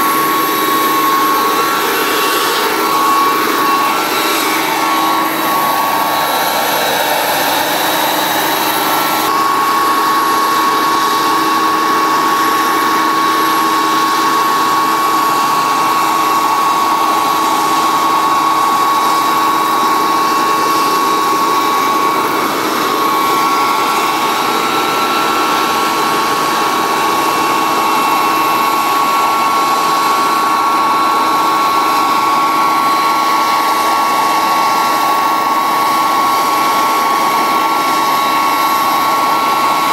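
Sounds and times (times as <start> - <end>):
rotor rushing noise: 0.0 - 33.0
jet turbine whine: 0.0 - 39.9.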